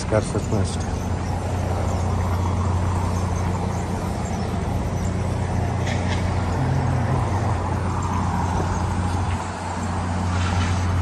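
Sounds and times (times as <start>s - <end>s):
road traffic: 0.0s - 11.0s
vehicle engine humming: 0.0s - 11.0s.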